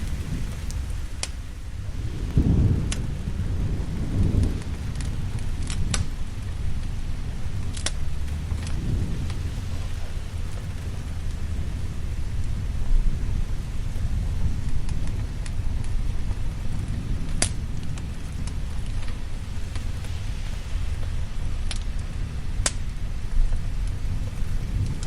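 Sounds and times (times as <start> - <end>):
fire crackling pops: 0.0 - 25.0
low rolling thunder: 0.0 - 25.0
steady rain: 0.0 - 25.0.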